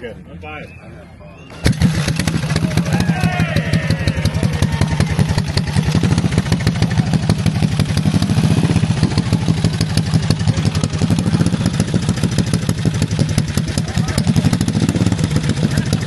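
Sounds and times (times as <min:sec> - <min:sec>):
motorcycle engine running: 0:01.6 - 0:16.0.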